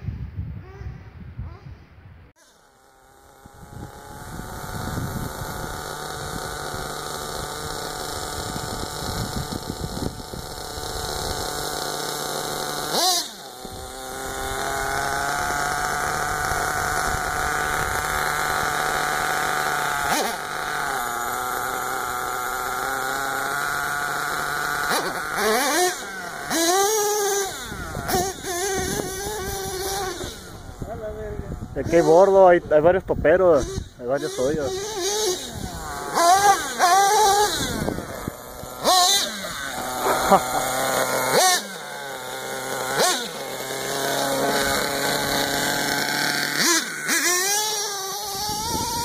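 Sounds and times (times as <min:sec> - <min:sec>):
rc truck nitro engine revving: 0:00.6 - 0:01.8, 0:02.4 - 0:49.0.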